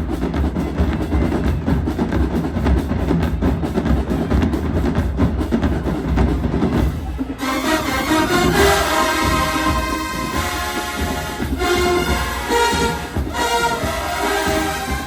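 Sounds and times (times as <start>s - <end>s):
drumline heavy beat: 0.0s - 15.0s
marching band playing: 0.0s - 15.0s.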